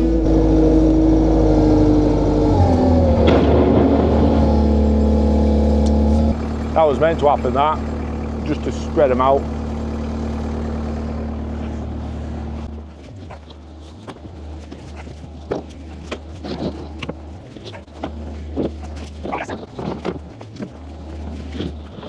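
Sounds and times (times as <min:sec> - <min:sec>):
low rumble: 0:00.0 - 0:22.0
vehicle engine hum: 0:00.0 - 0:22.0.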